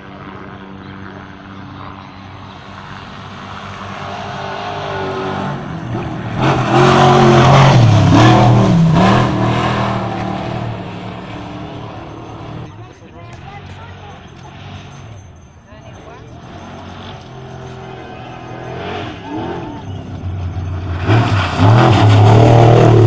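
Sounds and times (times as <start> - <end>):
truck engine passing at speed: 0.0 - 12.8, 13.9 - 23.0.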